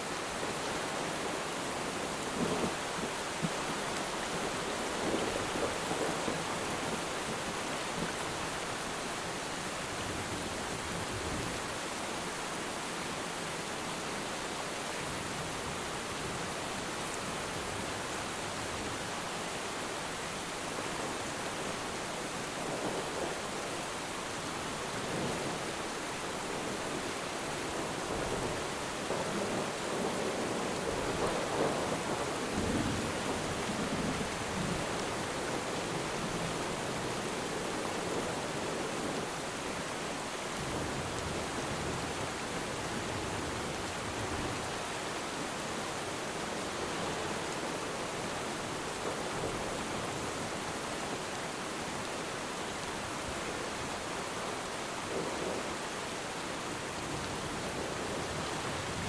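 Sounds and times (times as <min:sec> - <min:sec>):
rain falling on water: 0:00.0 - 0:59.0.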